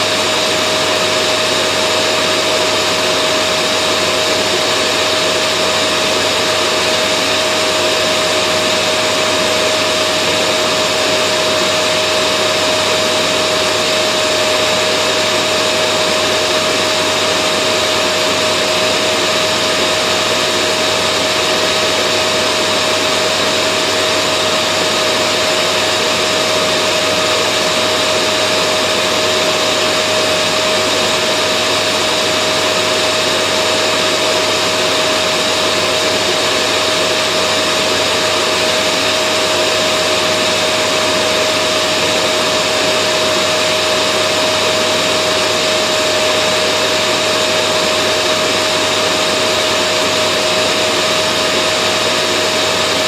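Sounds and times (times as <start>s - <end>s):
vacuum cleaner motor running: 0.0s - 53.0s.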